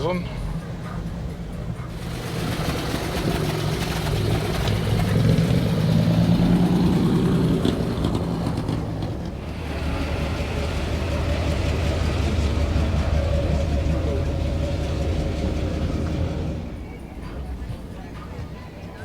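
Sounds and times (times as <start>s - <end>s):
car engine rolling past: 0.0s - 19.0s.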